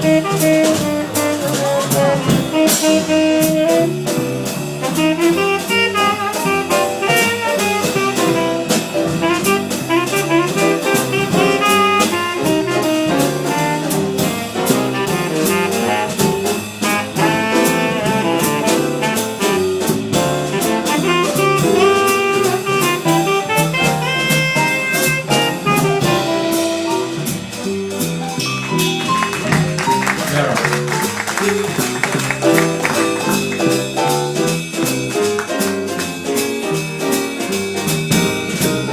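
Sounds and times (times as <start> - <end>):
horn playing fast melody: 0.0 - 4.2, 4.8 - 27.4, 28.4 - 34.6
drums: 0.0 - 38.9.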